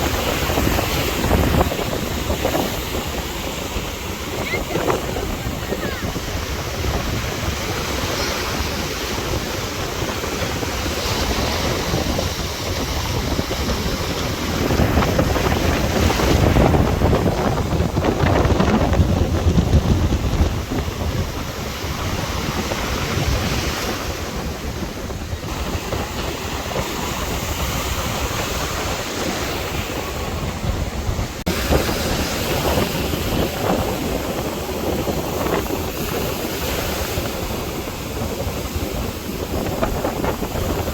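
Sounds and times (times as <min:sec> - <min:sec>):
sea waves breaking: 0:00.0 - 0:40.9
wind rumbling on microphone: 0:00.0 - 0:40.9.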